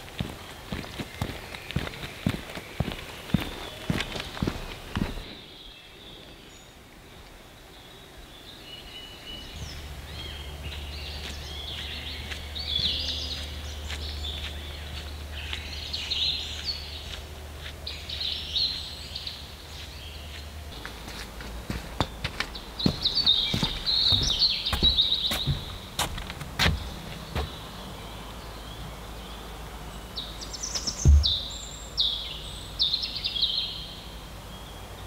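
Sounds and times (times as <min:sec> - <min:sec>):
songbirds singing: 0:00.0 - 0:35.0.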